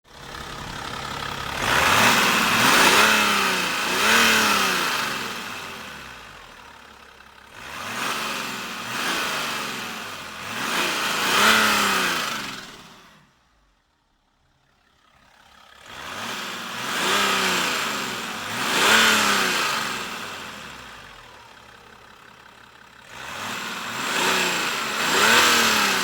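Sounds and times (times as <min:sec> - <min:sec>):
diesel engine revving: 0:00.1 - 0:13.7, 0:15.1 - 0:26.0.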